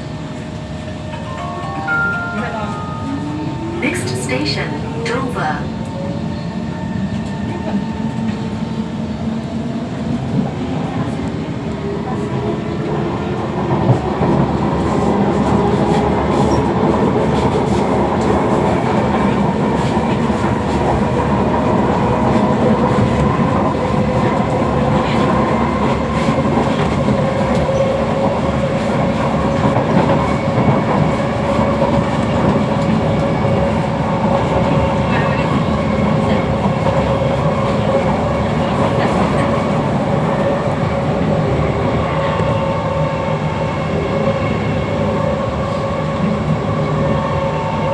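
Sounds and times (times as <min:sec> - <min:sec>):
train wheels rumbling on track: 0:00.0 - 0:47.9.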